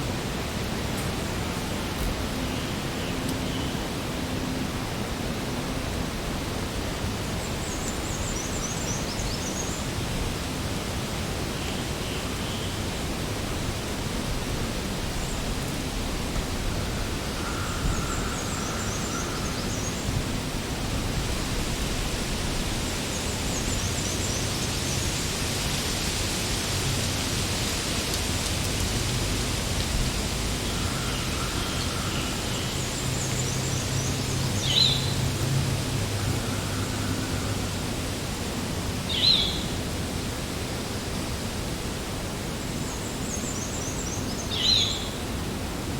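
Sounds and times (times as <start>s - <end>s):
steady background hiss: 0.0s - 45.9s.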